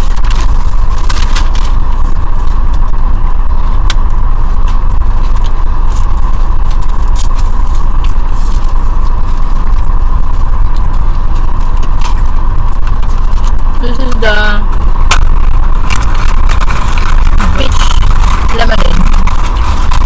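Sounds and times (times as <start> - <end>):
car cabin rumble: 0.0 - 20.0
sharp clicks and crackles: 0.0 - 20.0.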